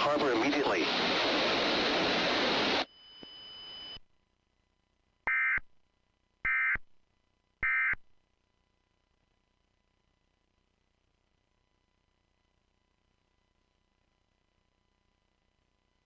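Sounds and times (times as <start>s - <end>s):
faint radio hiss: 0.0s - 6.4s, 7.0s - 16.0s.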